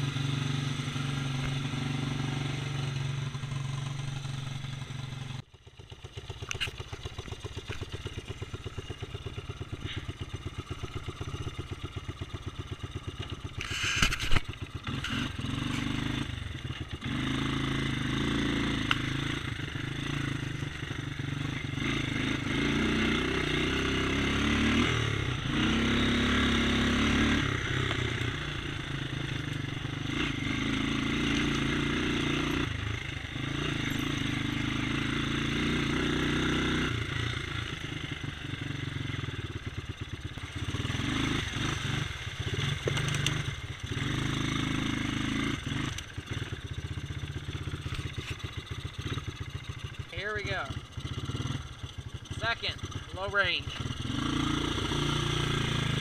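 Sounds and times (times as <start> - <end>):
four-wheeler engine running: 0.0 - 56.0.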